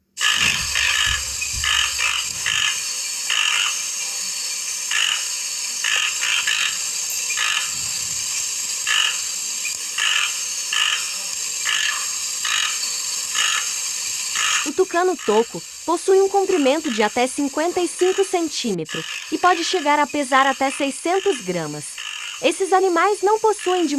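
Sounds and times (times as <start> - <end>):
toucan croaking calls: 0.1 - 23.9.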